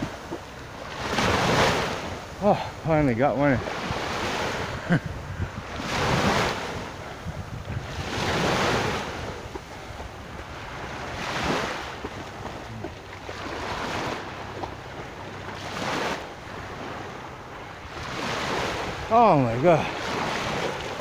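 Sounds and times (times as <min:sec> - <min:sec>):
waves washing onto shore: 0:00.0 - 0:21.0
wind on microphone: 0:00.0 - 0:21.0.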